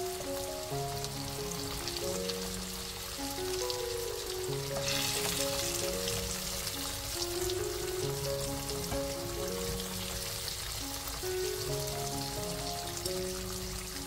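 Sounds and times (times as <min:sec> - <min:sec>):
background music with sustained notes: 0:00.0 - 0:14.0
chicken deep-frying in oil: 0:00.0 - 0:14.0.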